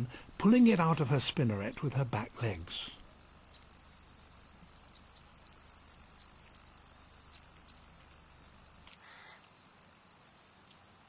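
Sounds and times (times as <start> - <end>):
cricket trill: 0.0 - 11.0
low rapid insect pulsing: 0.0 - 11.0.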